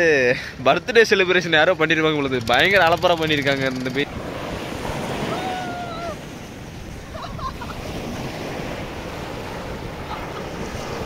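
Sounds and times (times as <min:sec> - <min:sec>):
surf washing on beach: 0:02.0 - 0:11.0.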